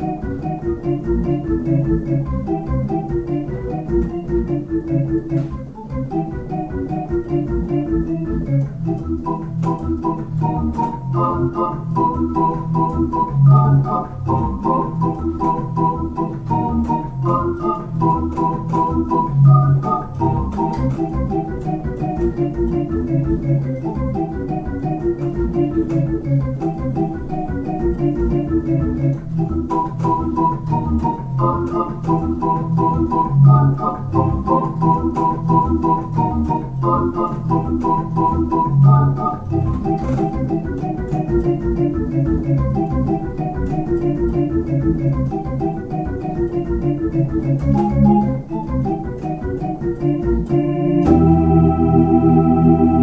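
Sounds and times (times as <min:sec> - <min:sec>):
organ playing: 0:00.0 - 0:53.0.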